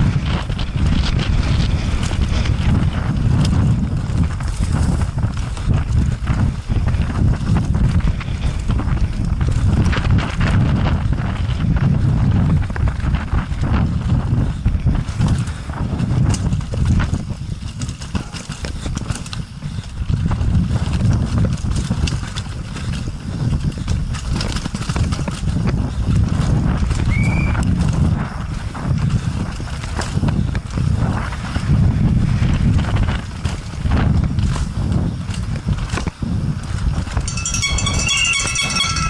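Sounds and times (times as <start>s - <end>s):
bike rattling over rough ground: 0.0s - 39.0s
heavy wind rumble: 0.0s - 39.0s.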